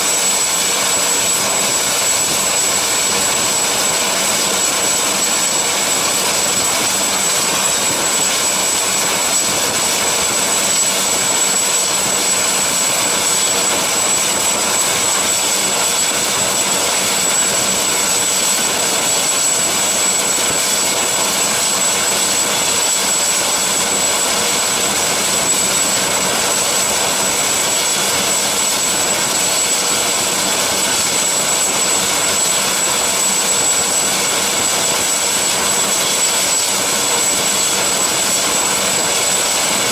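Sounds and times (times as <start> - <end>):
helicopter turbine whine and rotors: 0.0 - 39.9.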